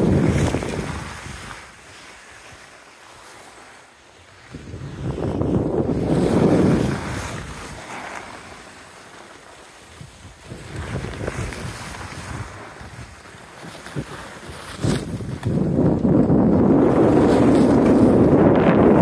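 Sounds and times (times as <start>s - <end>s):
wind buffeting microphone: 0.0s - 2.6s, 4.3s - 9.2s, 9.8s - 19.0s
skis scraping over snow: 0.0s - 19.0s.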